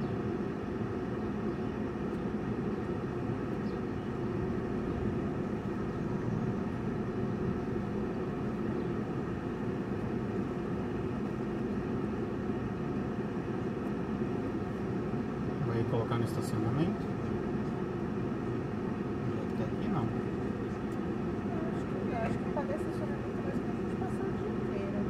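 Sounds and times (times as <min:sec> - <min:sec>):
car engine hum: 0:00.0 - 0:25.0
tyres on road: 0:00.0 - 0:25.0.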